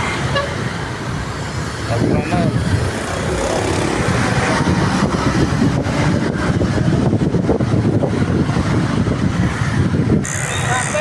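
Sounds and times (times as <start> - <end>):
diesel bus engine rumbling: 0.0 - 11.0
street traffic: 0.0 - 11.0.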